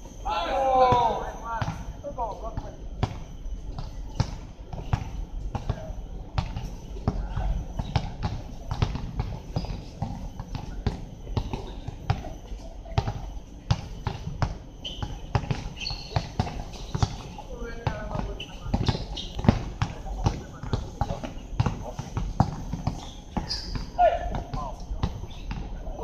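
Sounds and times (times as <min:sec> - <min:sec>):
faint players' voices: 0:00.2 - 0:26.0
basketball bouncing on hard court: 0:02.6 - 0:25.7.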